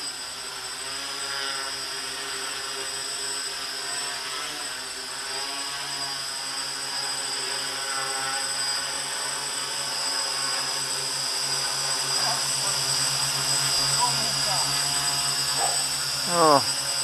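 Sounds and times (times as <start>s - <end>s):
quadcopter propellers buzzing: 0.0s - 17.0s.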